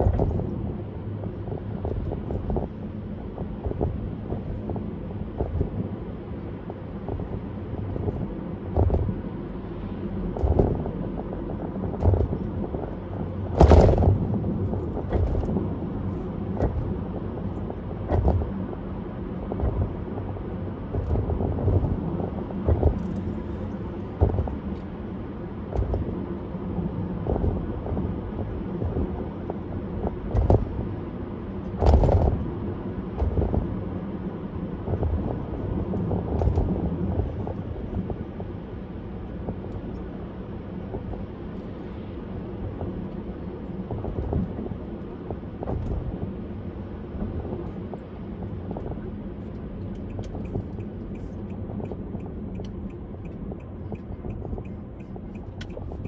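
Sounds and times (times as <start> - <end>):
car road rumble: 0.0 - 56.0.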